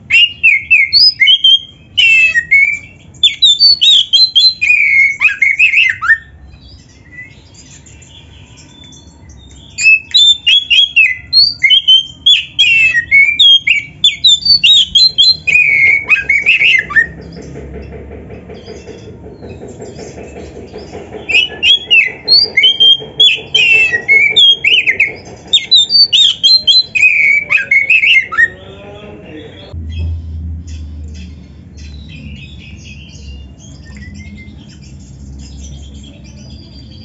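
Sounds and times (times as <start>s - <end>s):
songbird whistling and chirping: 0.0s - 17.2s, 21.2s - 28.6s, 29.8s - 37.0s.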